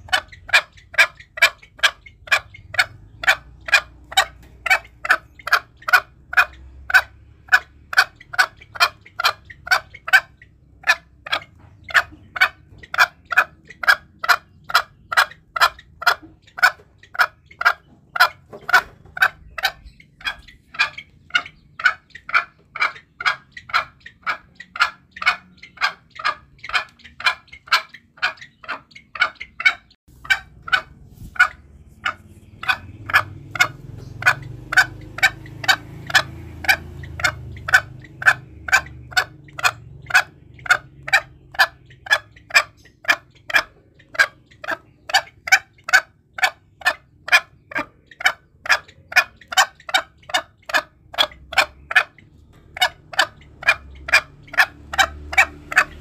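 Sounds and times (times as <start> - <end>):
junglefowl clucking: 0.0 - 56.0.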